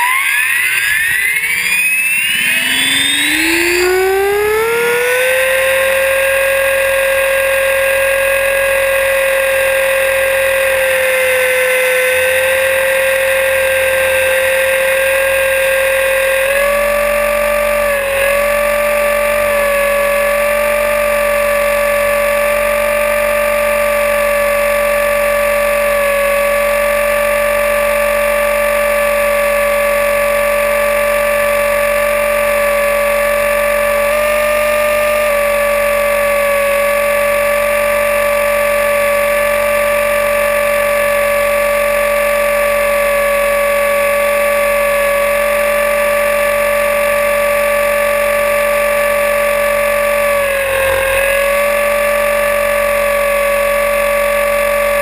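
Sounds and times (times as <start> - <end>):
rc helicopter motor whine: 0.0 - 55.0.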